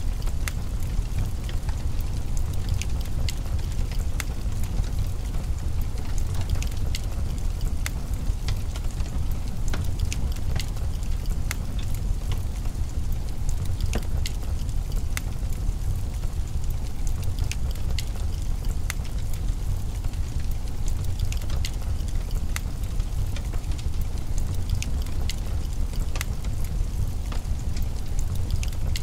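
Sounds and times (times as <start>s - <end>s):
low fire rumble: 0.0s - 29.0s
wood fire crackling: 0.0s - 29.0s.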